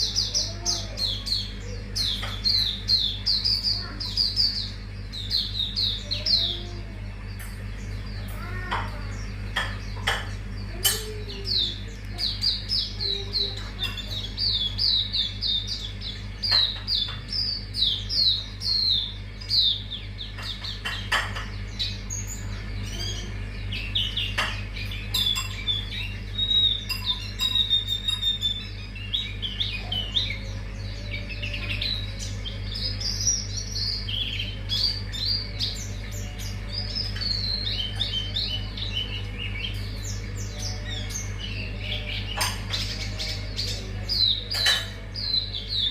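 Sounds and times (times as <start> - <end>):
bird singing high chirps: 0.0 - 45.9.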